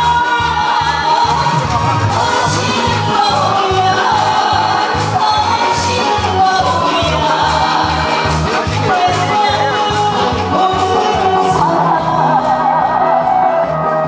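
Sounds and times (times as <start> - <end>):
music with steady bass beat: 0.0 - 14.0
woman singing into microphone: 0.0 - 14.0.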